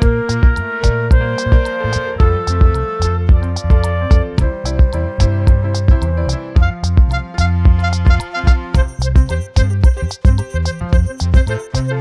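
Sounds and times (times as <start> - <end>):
steady thumping beat: 0.0 - 12.0
sustained melody notes: 0.0 - 12.0.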